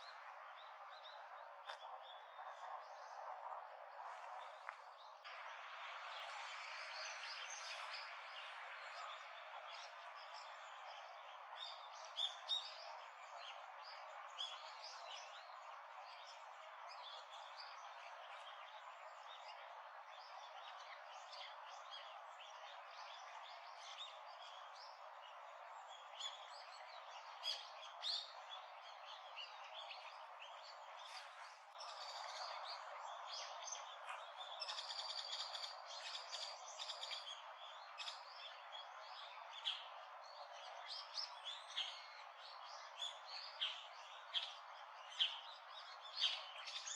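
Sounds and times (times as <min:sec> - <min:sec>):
wild birds chirping: 0:00.0 - 0:46.9.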